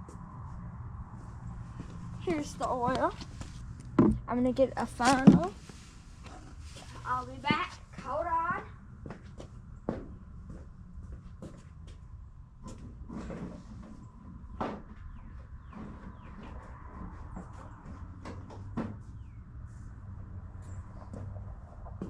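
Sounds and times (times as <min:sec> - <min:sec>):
low steady hum: 0:00.0 - 0:18.3.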